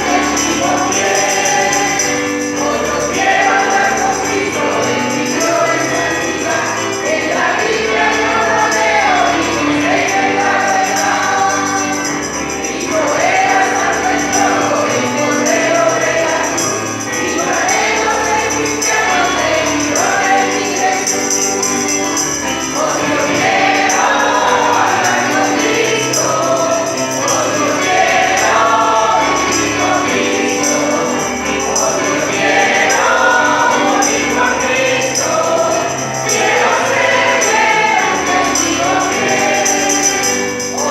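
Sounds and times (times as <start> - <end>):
choir singing a hymn: 0.0 - 40.9
tambourine shimmer: 0.0 - 40.9.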